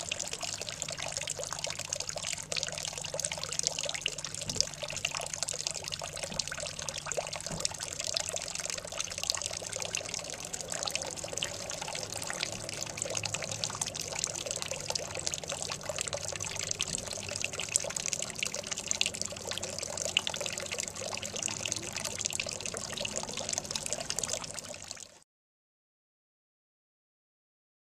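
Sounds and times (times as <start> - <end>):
low steady hum: 0.0 - 25.0
cat lapping water: 0.0 - 25.1
water trickling and splashing: 0.0 - 25.2.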